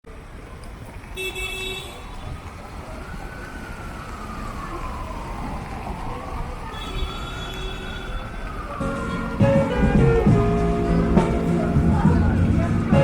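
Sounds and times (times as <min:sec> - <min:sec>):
street traffic noise: 0:00.0 - 0:13.0
emergency vehicle siren wailing: 0:01.8 - 0:13.0.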